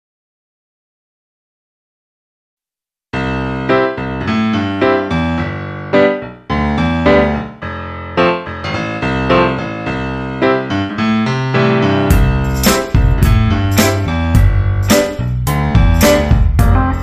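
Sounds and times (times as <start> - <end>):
piano-like keyboard melody: 3.2 - 17.0.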